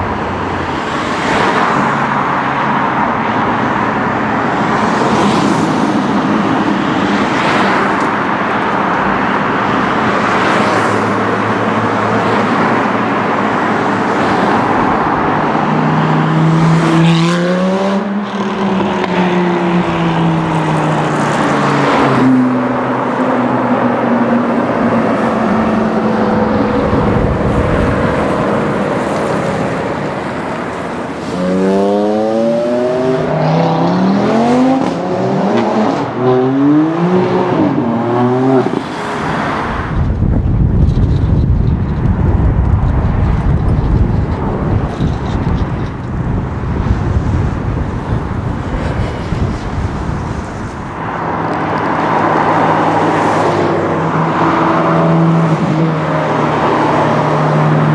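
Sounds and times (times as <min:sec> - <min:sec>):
car engines accelerating hard: 0:00.0 - 0:57.9.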